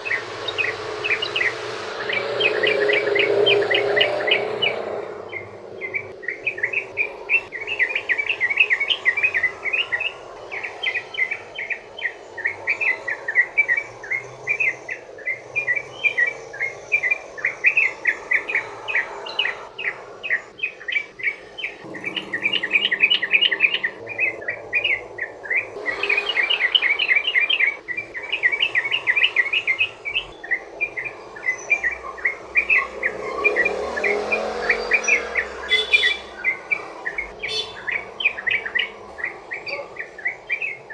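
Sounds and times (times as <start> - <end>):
bird singing rapid chattering song: 0.0 - 40.9.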